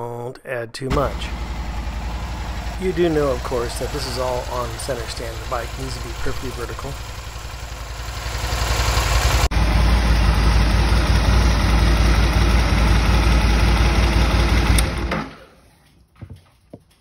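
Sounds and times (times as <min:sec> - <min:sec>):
motorcycle engine idling: 0:00.9 - 0:15.1.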